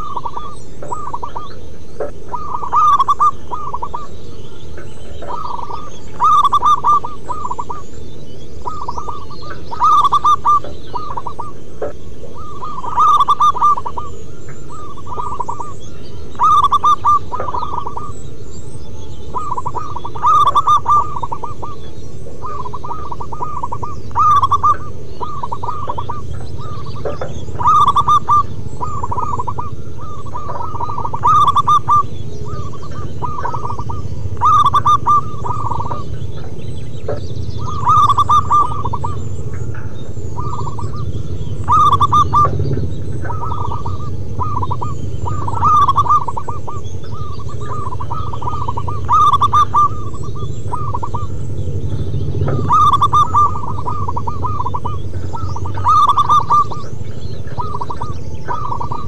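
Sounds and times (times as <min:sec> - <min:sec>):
doves cooing in trilled phrases: 0:00.0 - 0:59.0
steady low rumble: 0:00.0 - 0:59.0.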